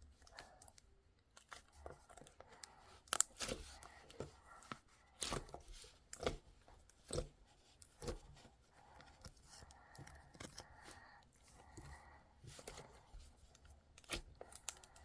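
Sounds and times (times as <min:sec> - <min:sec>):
frozen ice cream crunching: 0:01.3 - 0:15.0.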